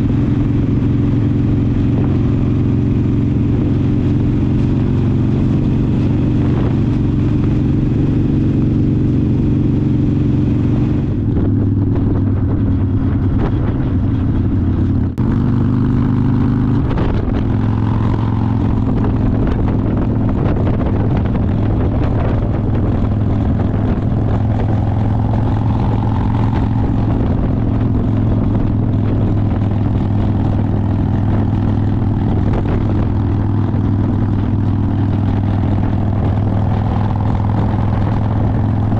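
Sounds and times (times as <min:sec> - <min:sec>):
motorcycle engine running: 0:00.0 - 0:38.9
road noise: 0:00.0 - 0:38.9
wind noise: 0:00.0 - 0:38.9.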